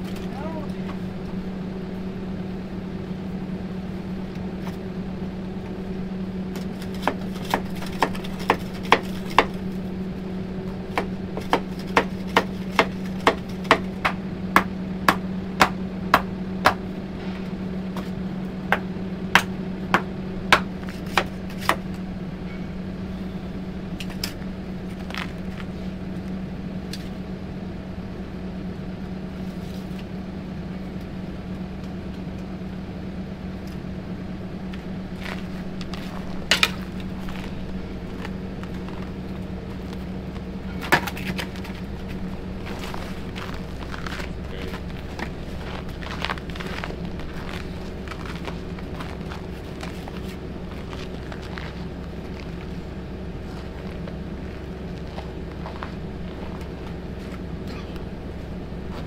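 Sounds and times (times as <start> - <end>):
generator humming: 0.0 - 59.0.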